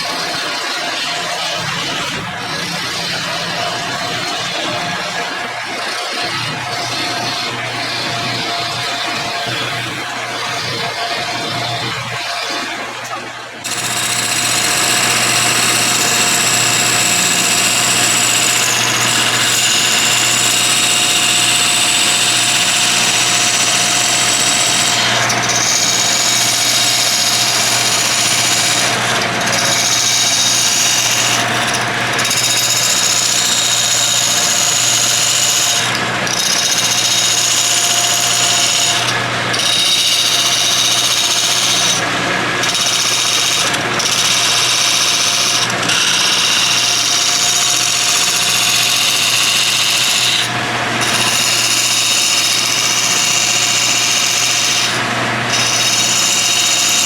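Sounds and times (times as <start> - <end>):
wood lathe cutting whine: 0.0 - 57.0.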